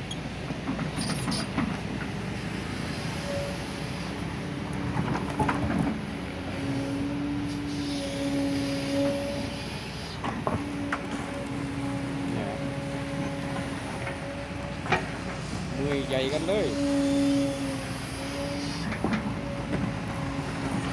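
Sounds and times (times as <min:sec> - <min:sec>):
excavator engine drone: 0:00.0 - 0:20.9.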